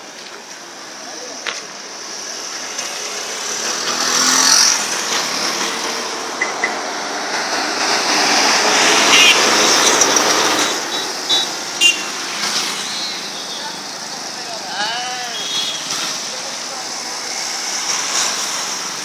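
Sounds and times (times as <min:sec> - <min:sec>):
traffic passing close by: 0:00.0 - 0:19.0.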